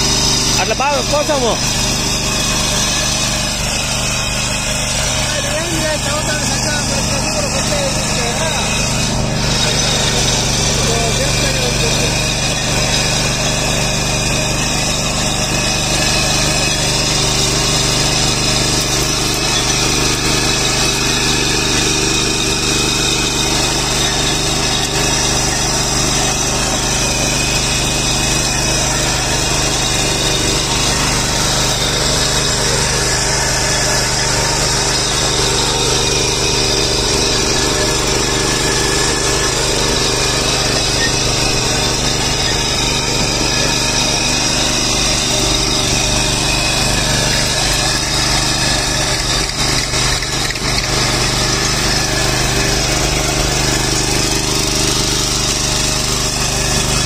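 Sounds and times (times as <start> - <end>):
petrol engine running under load: 0.0 - 57.0
rotary tines tilling soil: 0.0 - 57.0.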